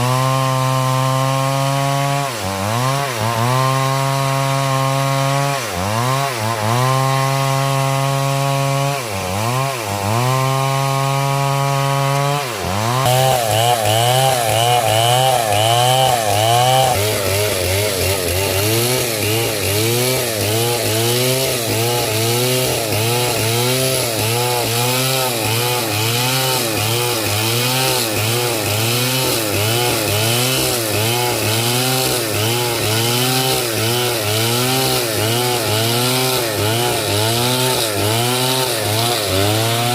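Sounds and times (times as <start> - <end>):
chainsaw cutting wood: 0.0 - 39.9
chainsaw running at high revs: 0.0 - 39.9.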